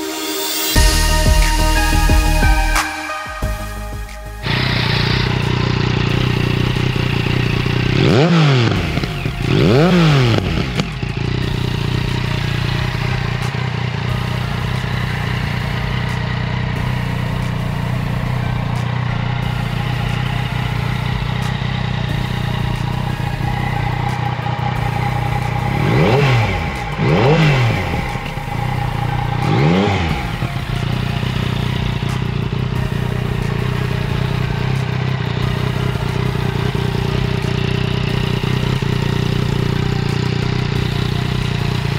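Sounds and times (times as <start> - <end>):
motorcycle engine revving: 3.5 - 41.9
motorcycle engine idling: 4.4 - 41.9.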